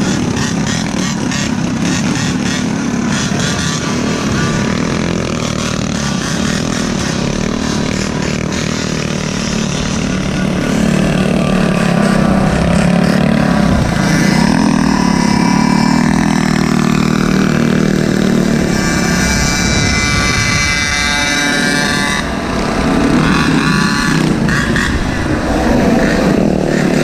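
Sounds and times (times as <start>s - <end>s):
small engines revving: 0.0s - 27.0s.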